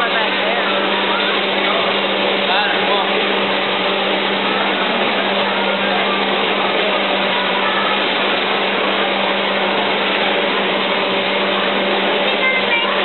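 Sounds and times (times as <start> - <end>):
machine whirring: 0.0 - 13.0.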